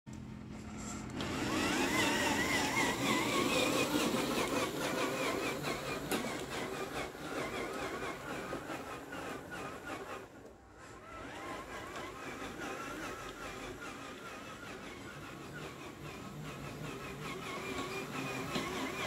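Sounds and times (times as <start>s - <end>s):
toy truck motor whining: 0.8s - 19.0s.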